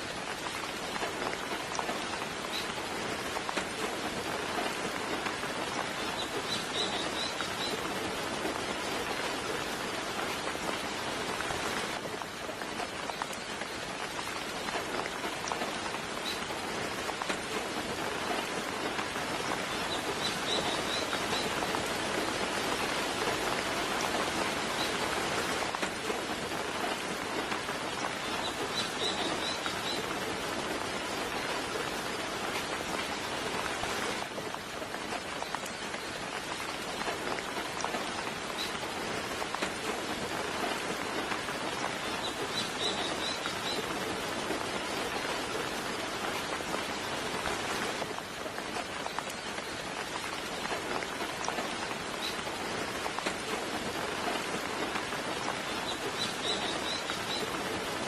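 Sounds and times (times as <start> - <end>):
soft rain pattering: 0.0 - 58.0.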